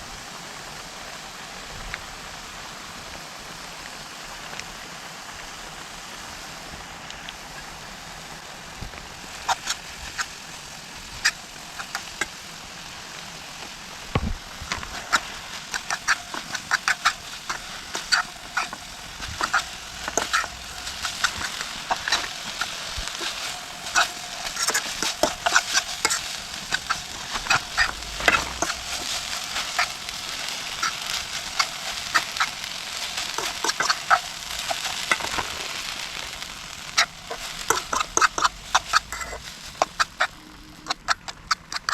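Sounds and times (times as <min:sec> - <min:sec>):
rain pattering on a tent: 0:00.0 - 0:41.9.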